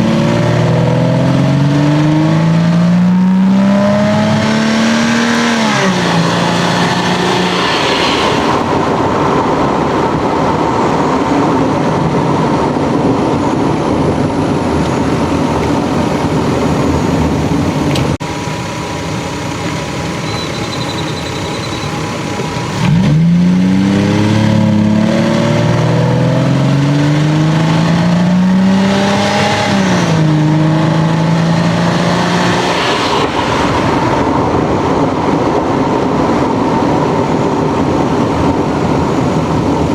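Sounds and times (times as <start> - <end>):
car engine accelerating: 0.0 - 36.6.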